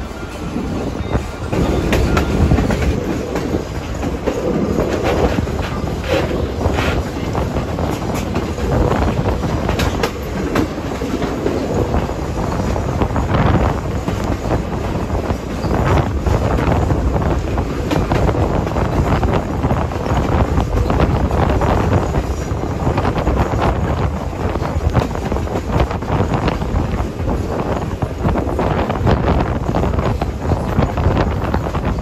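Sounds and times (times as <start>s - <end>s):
train wheels rumbling: 0.0s - 32.0s
wheels clicking over rail joints: 1.5s - 29.2s.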